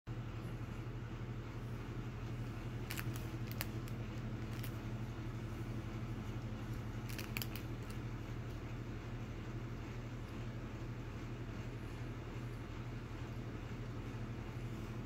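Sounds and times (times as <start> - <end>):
computer fan humming: 0.1 - 15.0.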